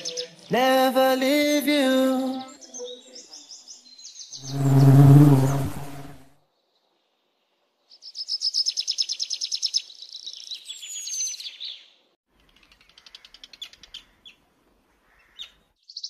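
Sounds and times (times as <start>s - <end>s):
birds trilling high chirps: 0.0s - 6.9s, 7.9s - 14.4s, 15.0s - 16.0s.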